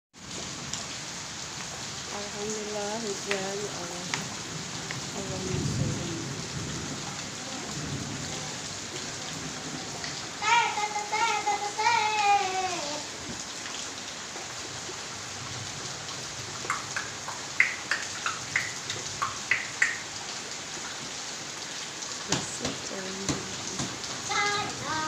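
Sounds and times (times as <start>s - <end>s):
heavy rain falling: 0.2s - 25.0s.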